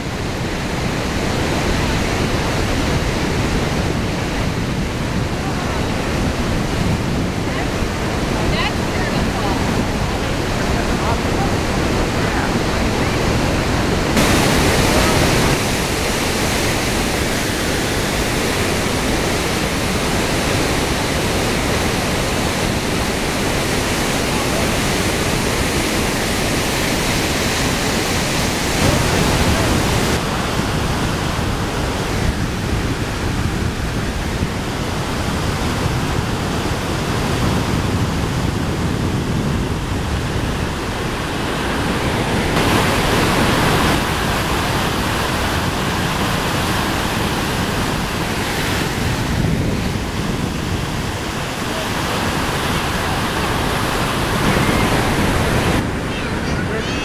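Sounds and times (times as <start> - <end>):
waterfall and rapids rushing: 0.0 - 57.0.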